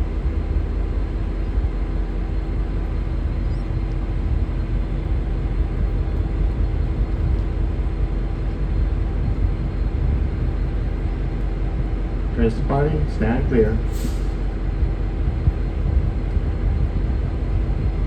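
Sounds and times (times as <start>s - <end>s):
constant hum: 0.0s - 18.0s
diesel locomotive idling: 0.0s - 18.0s.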